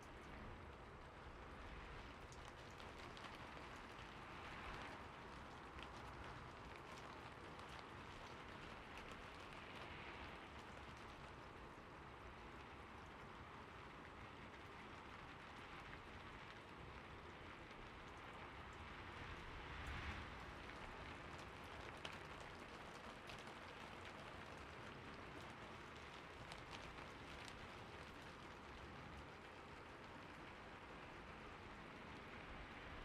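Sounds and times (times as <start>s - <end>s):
fountain water splashing: 0.0s - 33.0s.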